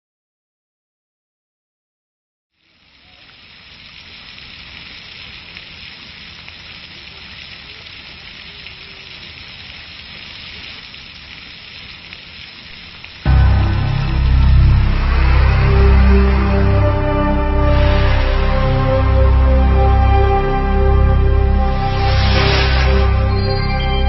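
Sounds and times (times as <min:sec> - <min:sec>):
steady hissing crackling noise: 0:02.6 - 0:24.0.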